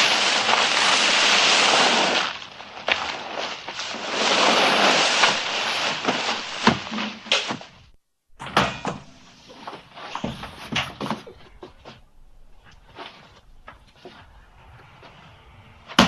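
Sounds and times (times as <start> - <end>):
clothing rustle and scuffling: 0.0 - 8.0, 9.2 - 15.9.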